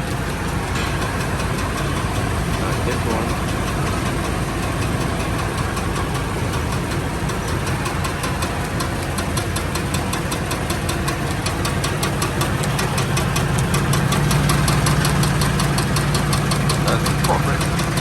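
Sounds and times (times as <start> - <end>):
rapid regular ticking: 0.0 - 18.0
truck engine running: 0.0 - 18.0.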